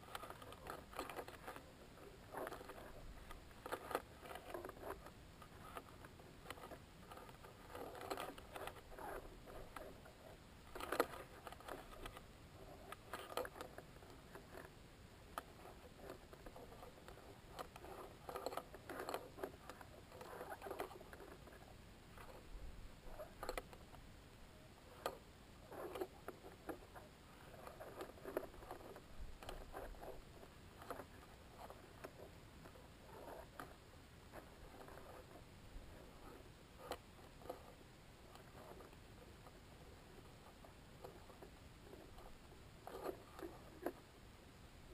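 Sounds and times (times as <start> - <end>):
scratching and rustling on camera housing: 0.0 - 44.9.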